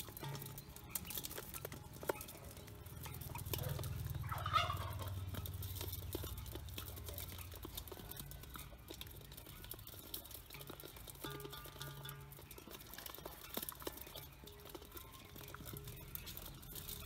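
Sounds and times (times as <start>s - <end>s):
ducklings pecking on metal: 0.0s - 17.0s.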